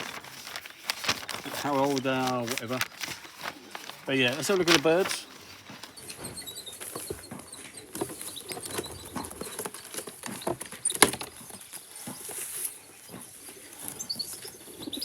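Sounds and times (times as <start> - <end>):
pigeons scrabbling and shuffling: 0.0 - 15.0.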